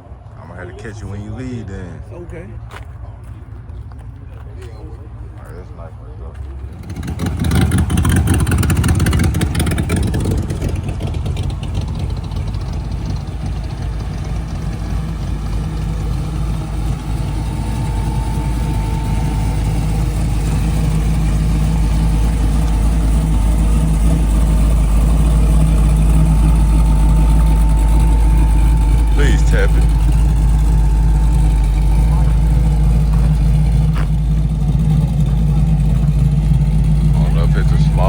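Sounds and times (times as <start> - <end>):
car engine starting and idling: 4.7 - 38.0.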